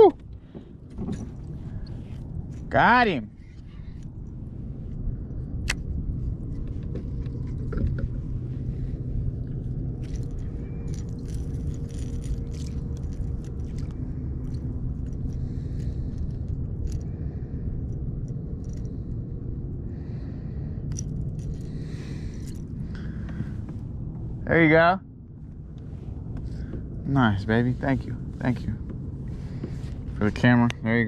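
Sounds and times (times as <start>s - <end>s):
faint hum: 0.0s - 31.0s
low rumble: 0.0s - 31.0s.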